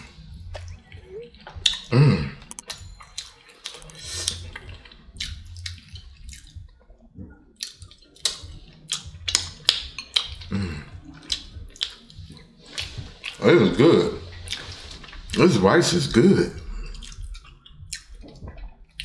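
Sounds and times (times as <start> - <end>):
wet chewing with mouth smacks: 0.4 - 13.5, 14.3 - 15.4, 16.6 - 19.0.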